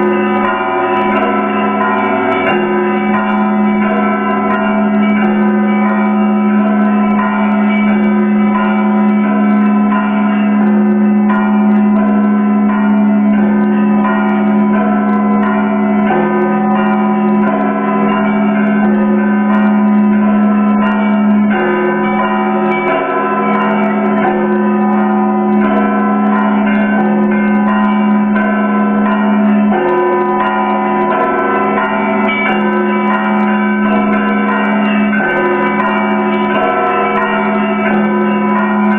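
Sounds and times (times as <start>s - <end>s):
deep bell humming: 0.0s - 38.9s
small bells struck rapidly: 0.0s - 38.9s.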